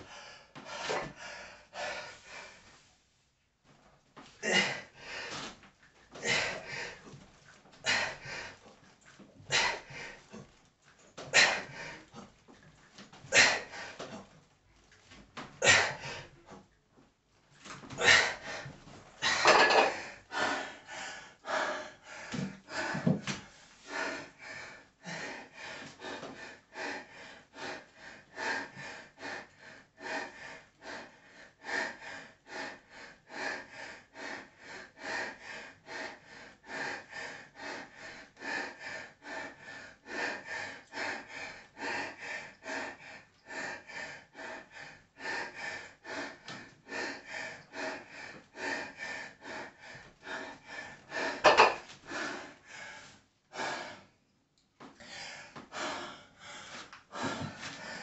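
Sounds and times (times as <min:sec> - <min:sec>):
man panting: 0:00.0 - 0:02.7, 0:04.4 - 0:10.6, 0:11.2 - 0:14.4, 0:15.5 - 0:16.6, 0:17.8 - 0:54.2, 0:54.9 - 0:58.0.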